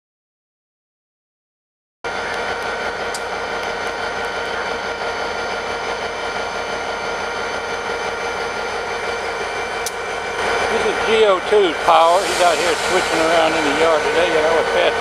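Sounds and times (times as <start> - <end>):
locomotive diesel engine: 2.1 - 15.0.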